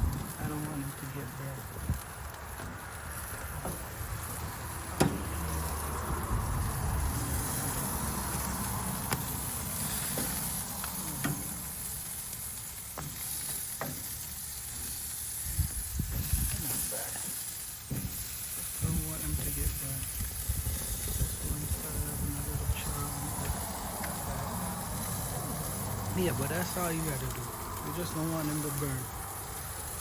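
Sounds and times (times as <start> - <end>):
chicken sizzling on a grill: 0.0 - 30.0.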